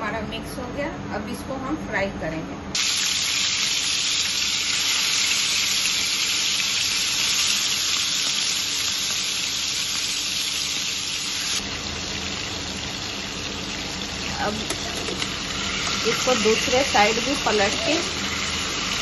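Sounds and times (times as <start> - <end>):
chicken sizzling in hot oil: 2.8 - 19.0.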